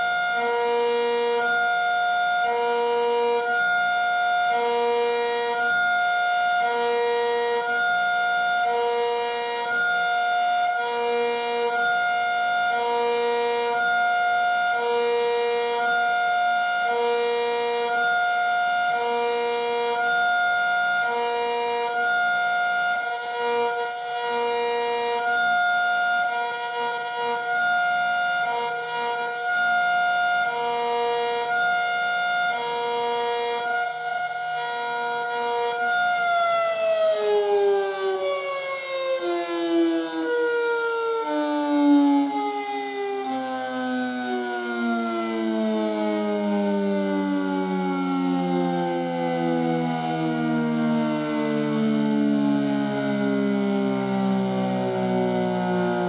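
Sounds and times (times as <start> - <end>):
hi-lo warning siren: 0.0 - 56.0.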